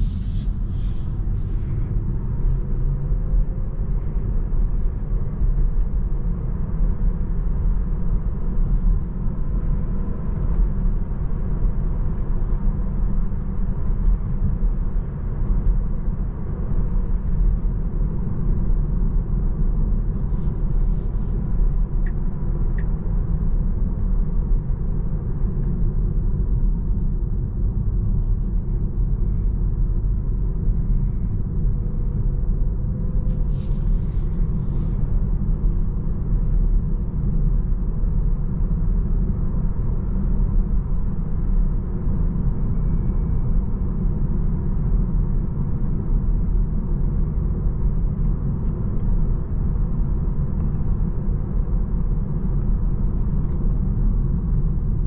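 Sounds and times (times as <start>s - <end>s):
road and tyre rumble in car: 0.0s - 55.0s.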